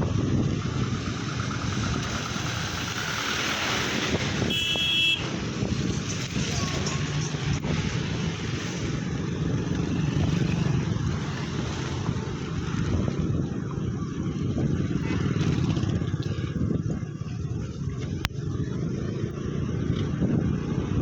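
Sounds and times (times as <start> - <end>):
vehicle engine rumbling: 0.0 - 21.0
wind noise: 0.0 - 21.0.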